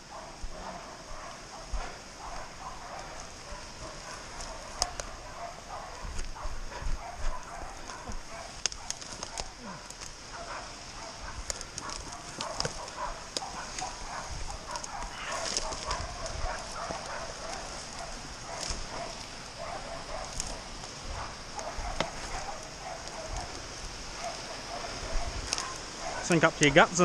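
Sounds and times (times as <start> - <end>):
dog barking: 0.0 - 26.4
footsteps through scrub: 0.0 - 26.6
rustling in scrub: 0.0 - 27.0.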